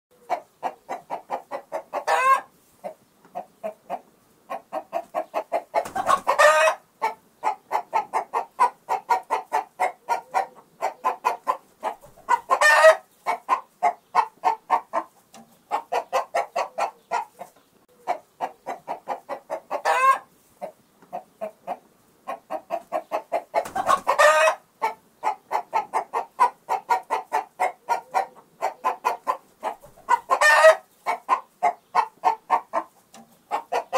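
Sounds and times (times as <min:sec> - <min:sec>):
chickens clucking: 0:00.1 - 0:33.9
chicken squawk: 0:00.2 - 0:15.1, 0:15.7 - 0:33.9.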